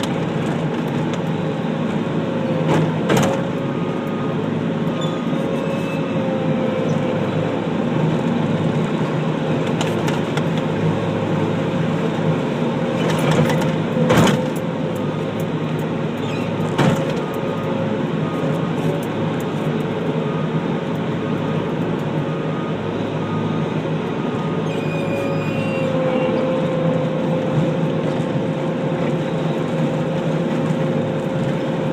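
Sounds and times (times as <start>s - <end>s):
loader engine running: 0.0s - 31.9s.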